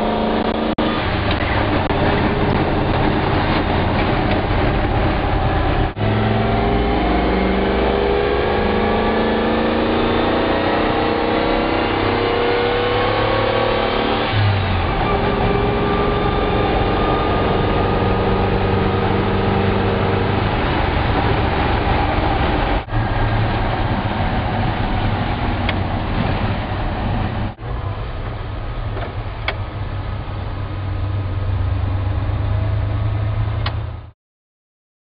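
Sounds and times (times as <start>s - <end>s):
truck engine accelerating: 0.0s - 34.1s.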